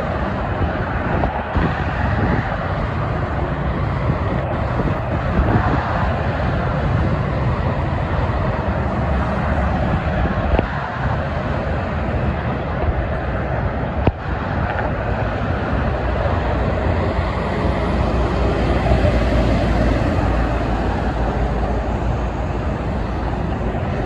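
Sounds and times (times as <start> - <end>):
highway traffic: 0.0 - 24.0.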